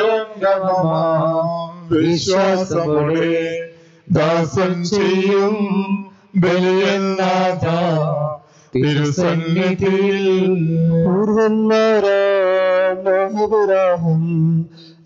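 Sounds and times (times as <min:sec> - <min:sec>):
man singing a hymn: 0:00.0 - 0:15.0.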